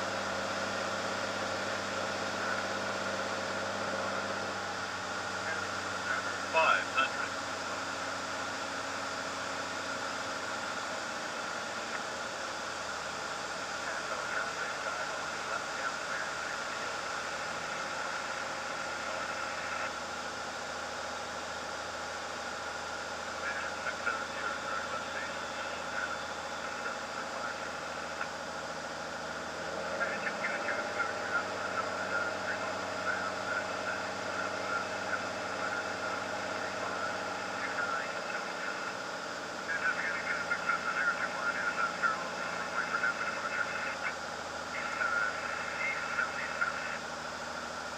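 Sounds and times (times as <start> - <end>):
airplane engine and propeller drone: 0.0 - 47.9.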